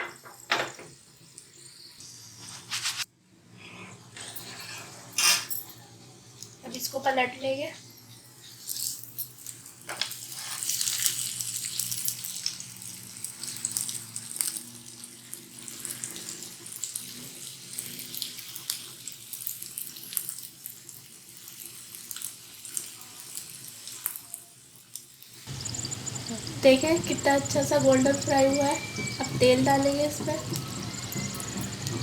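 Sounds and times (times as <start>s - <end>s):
oil sizzling in a pan: 0.1s - 3.1s, 6.2s - 32.0s.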